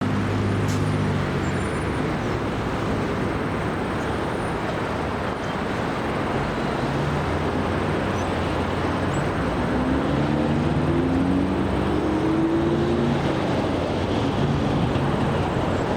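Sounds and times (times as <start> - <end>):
jet engines running: 0.2 - 15.9.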